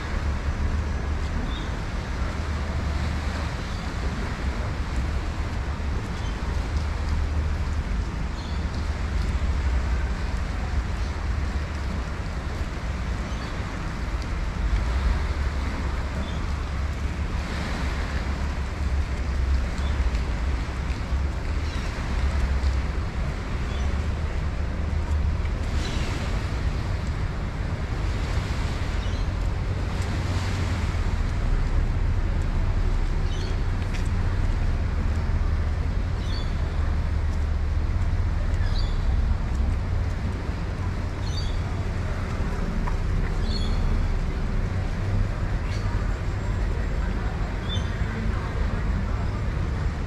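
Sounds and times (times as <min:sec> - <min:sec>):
rain hiss: 0:00.0 - 0:50.0
wind rumbling on microphone: 0:00.0 - 0:50.0.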